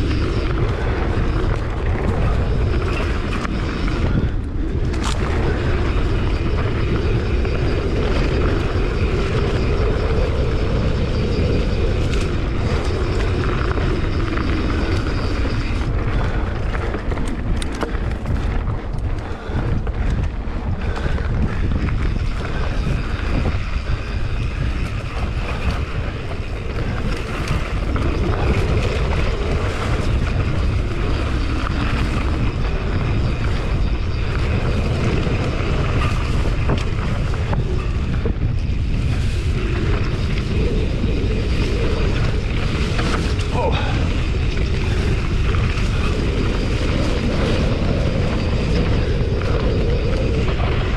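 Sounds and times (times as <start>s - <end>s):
low rumble: 0.0s - 50.9s
wind on microphone: 0.0s - 50.9s.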